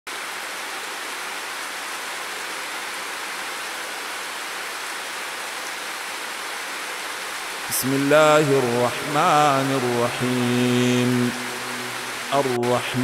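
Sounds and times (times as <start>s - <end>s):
steady rain: 0.1s - 13.0s.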